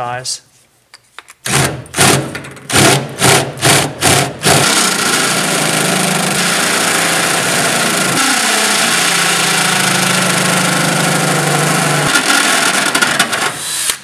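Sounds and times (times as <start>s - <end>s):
cordless drill cutting sheet metal: 1.5s - 14.0s.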